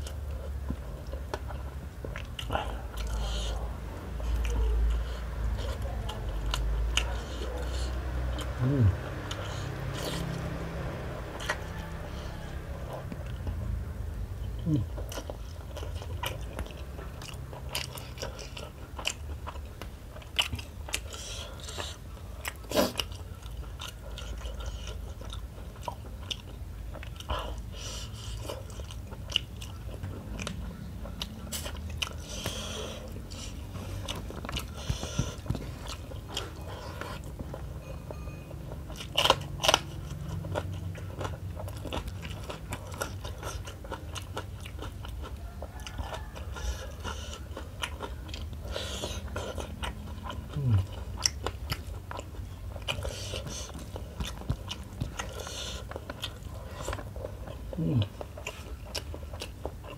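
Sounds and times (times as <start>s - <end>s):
person chewing and mouth smacking: 0.0s - 59.9s.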